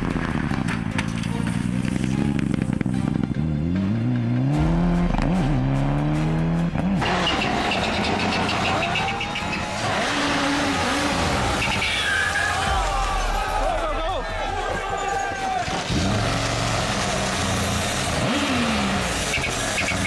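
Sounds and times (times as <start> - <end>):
rally car engine accelerating: 0.0 - 12.0, 15.6 - 20.0.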